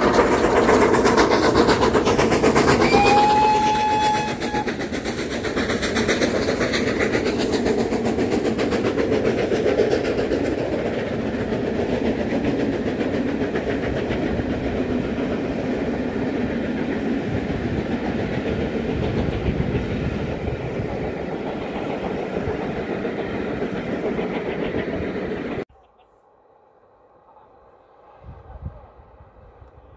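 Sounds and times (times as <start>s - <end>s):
train wheels clattering on track: 0.0s - 25.6s
steam locomotive exhaust beats: 0.0s - 25.7s.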